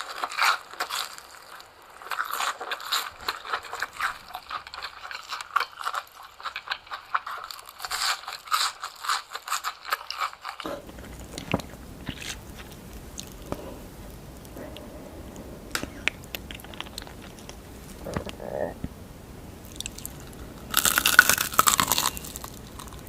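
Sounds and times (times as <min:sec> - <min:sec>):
crunching and chewing: 0:00.0 - 0:19.0, 0:19.6 - 0:23.0
low background noise: 0:00.0 - 0:23.0.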